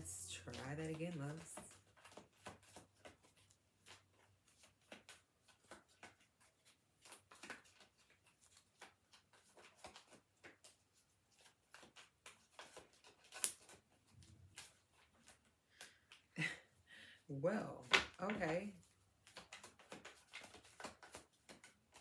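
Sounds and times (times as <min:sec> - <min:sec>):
cards being shuffled: 0:00.0 - 0:16.5, 0:17.8 - 0:22.0.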